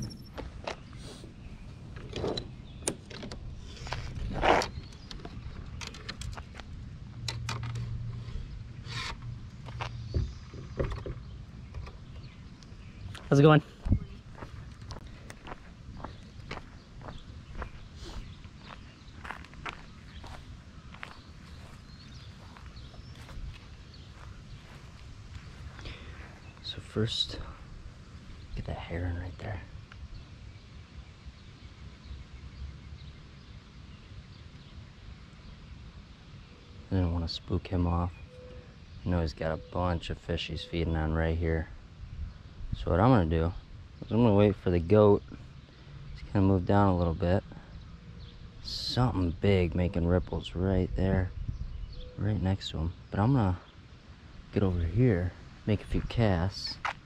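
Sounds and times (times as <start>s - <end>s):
faint songbird chirps: 0.0s - 57.0s
low wind rumble: 0.0s - 57.0s.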